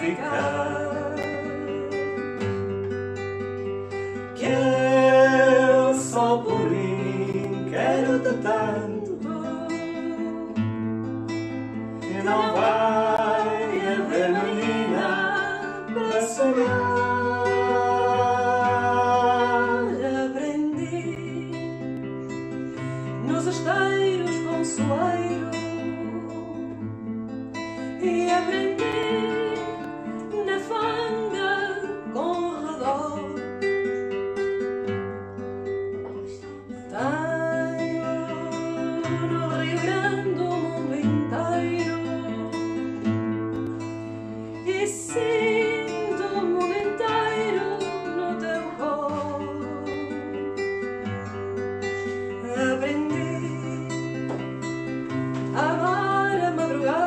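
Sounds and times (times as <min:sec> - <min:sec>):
acoustic guitar: 0:00.0 - 0:57.0.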